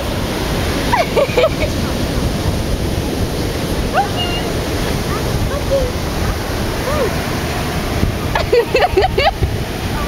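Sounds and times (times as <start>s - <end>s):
surf and wind rushing: 0.0s - 10.0s.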